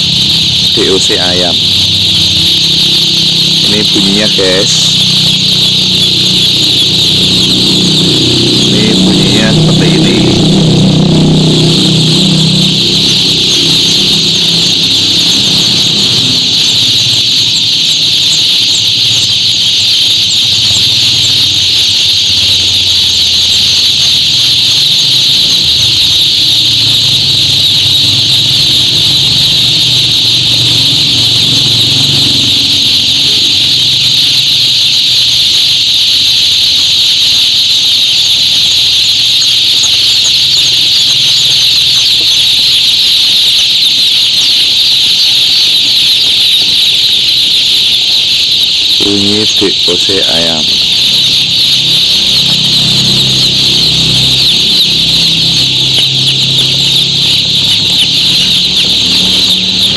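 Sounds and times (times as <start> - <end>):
chicks chirping: 0.0 - 59.9.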